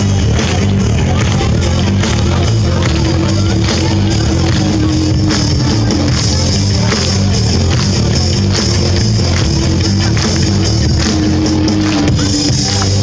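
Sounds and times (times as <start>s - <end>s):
bass guitar: 0.0s - 13.0s
drum kit beat: 0.0s - 13.0s.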